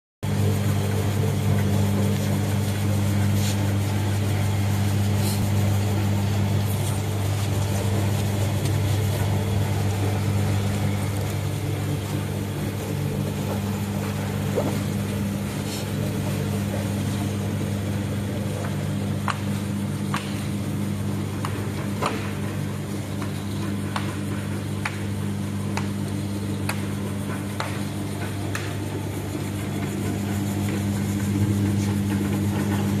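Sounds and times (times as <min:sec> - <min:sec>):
machine motor humming: 0:00.3 - 0:33.0.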